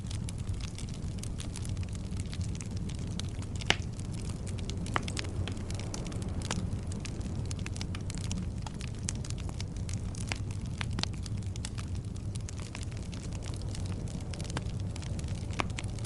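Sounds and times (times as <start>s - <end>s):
loud pops of fire: 0.0s - 16.0s
low rumble of flames: 0.0s - 16.0s
small snaps of fire: 0.0s - 16.0s.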